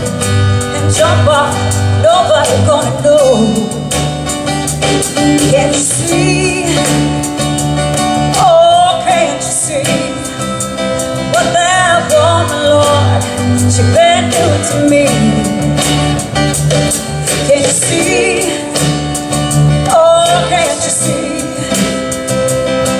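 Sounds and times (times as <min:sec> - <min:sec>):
acoustic guitar: 0:00.0 - 0:22.9
steady drum beat: 0:00.0 - 0:22.9
woman singing country-rock song: 0:00.1 - 0:22.9.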